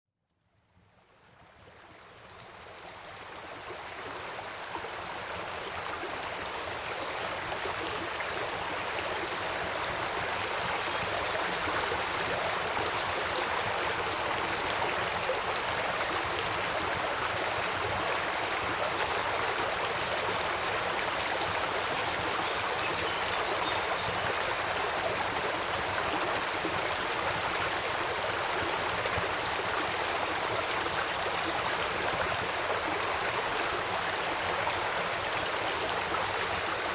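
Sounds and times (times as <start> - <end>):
river flowing: 1.4 - 36.9.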